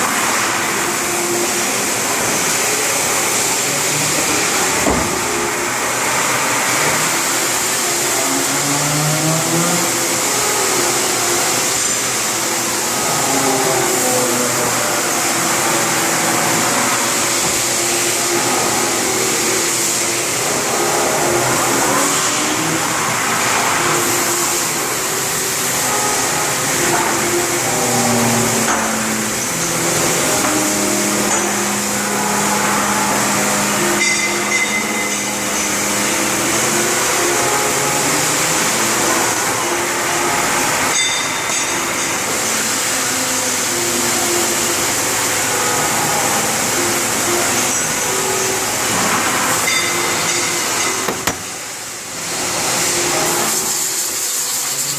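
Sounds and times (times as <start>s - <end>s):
cnc machine whirring and whining: 0.0s - 54.9s.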